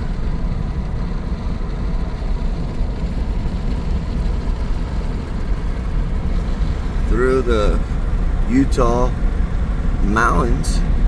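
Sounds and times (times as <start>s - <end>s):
vehicle driving on highway: 0.0s - 11.0s.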